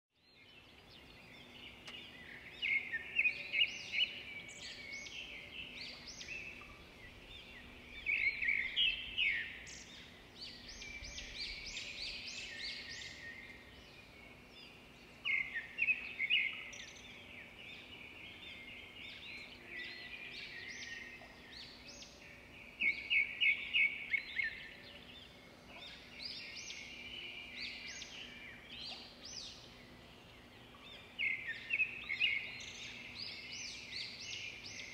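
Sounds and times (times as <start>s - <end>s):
birds chirping: 0.3s - 34.9s.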